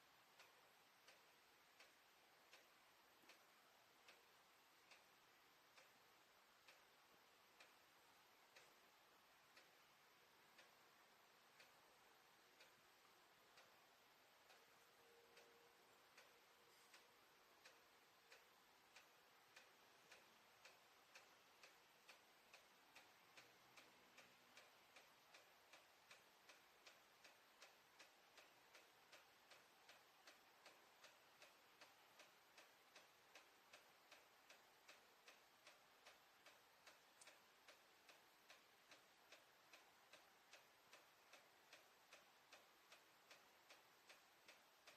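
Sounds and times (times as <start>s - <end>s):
faint regular ticking in plumbing: 0.0s - 44.9s.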